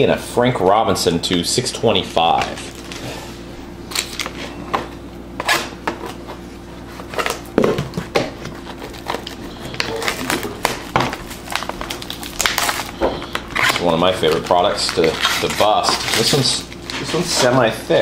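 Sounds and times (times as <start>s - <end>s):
cards and foil packaging rustling: 1.3s - 4.6s, 6.1s - 18.0s.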